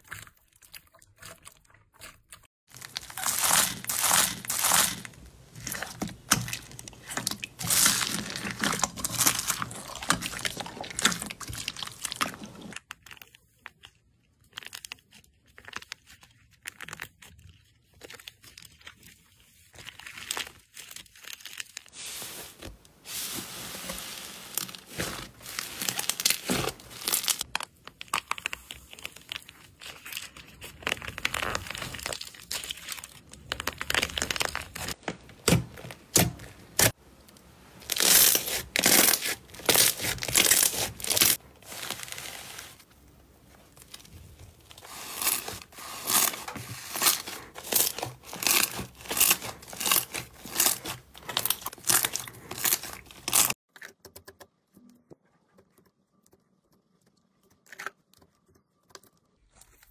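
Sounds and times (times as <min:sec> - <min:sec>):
slime squishing and crackling: 0:00.0 - 0:53.7.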